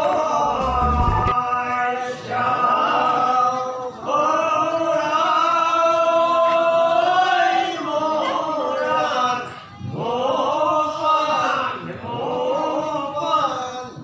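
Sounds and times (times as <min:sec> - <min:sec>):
men chanting a prayer: 0:00.0 - 0:14.0.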